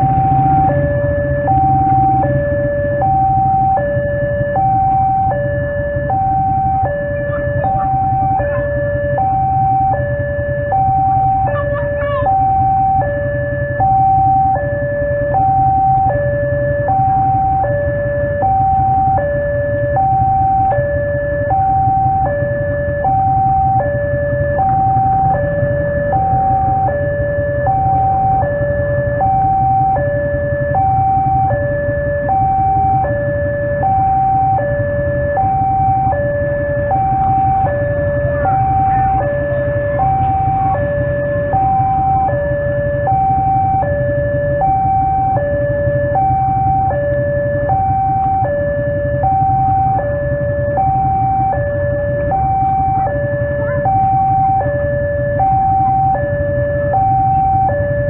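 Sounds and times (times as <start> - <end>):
level-crossing two-tone alarm: 0.0 - 58.0.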